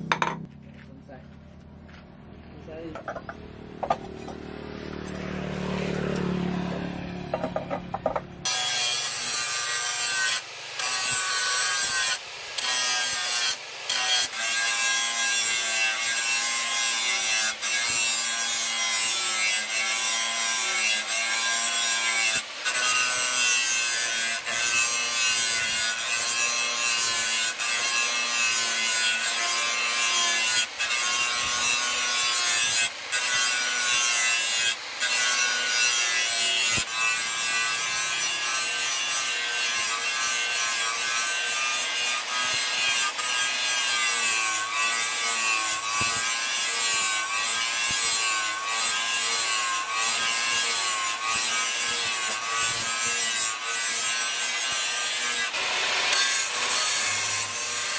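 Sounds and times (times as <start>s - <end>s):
angle grinder grinding steel: 6.2s - 57.9s.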